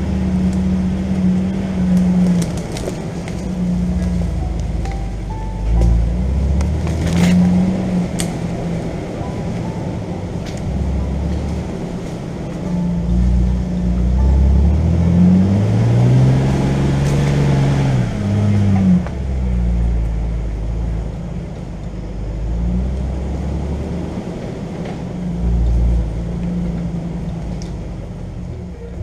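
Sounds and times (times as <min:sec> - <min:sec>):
off-road vehicle engine rumbling: 0:00.0 - 0:29.0.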